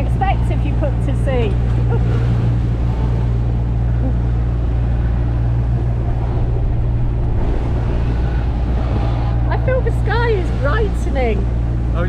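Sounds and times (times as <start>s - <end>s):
waves breaking: 0.0s - 12.0s
wind buffeting microphone: 0.0s - 12.0s.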